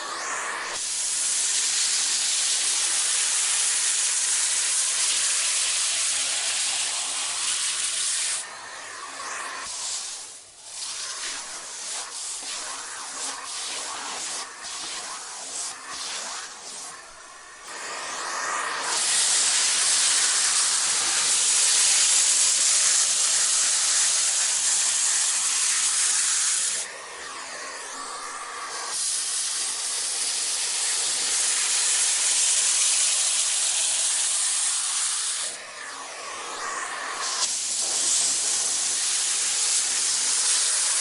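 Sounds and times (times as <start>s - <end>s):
vacuum cleaner rushing hiss: 0.0s - 41.0s.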